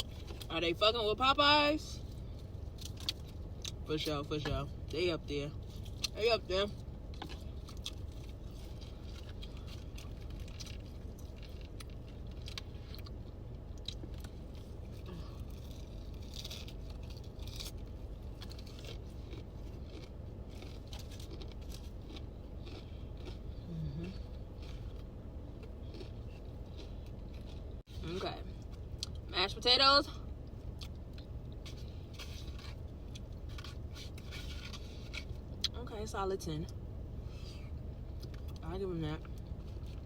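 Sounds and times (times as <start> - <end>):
chewing and crunching food: 0.0 - 0.7, 2.0 - 4.1, 5.6 - 35.9, 36.6 - 38.6, 39.2 - 40.0
steady low hum: 0.0 - 40.0.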